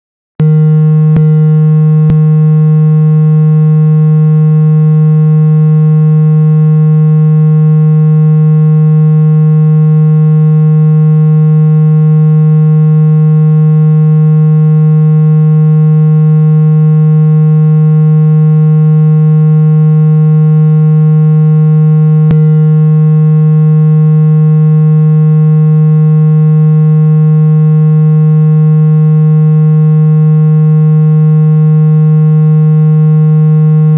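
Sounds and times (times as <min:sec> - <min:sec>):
buzzy electronic hum: 0:00.4 - 0:33.9.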